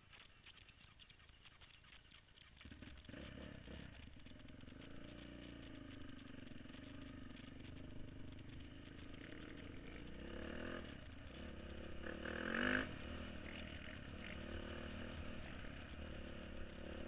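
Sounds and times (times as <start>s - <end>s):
atv engine running: 0.0s - 17.0s
faint scratchy crackle: 0.0s - 17.0s.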